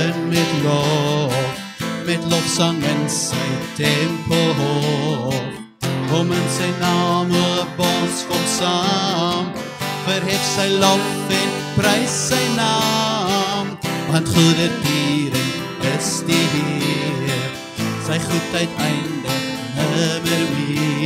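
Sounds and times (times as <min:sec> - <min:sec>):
man singing a hymn: 0:00.0 - 0:21.0
strummed acoustic guitar: 0:00.0 - 0:21.0.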